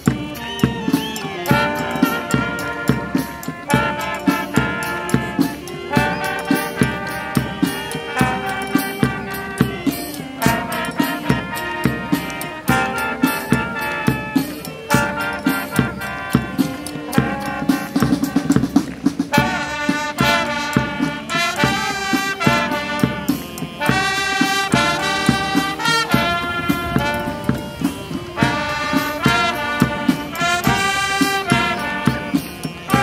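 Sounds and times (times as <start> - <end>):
brass playing phrases: 0.0 - 33.0
marching drum beat: 0.0 - 33.0.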